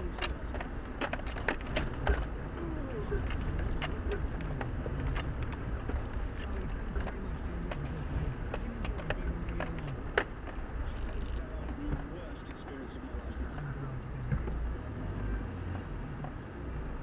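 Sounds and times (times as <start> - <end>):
vehicle knocks and rattles: 0.0 - 14.9
car engine running: 0.0 - 17.0.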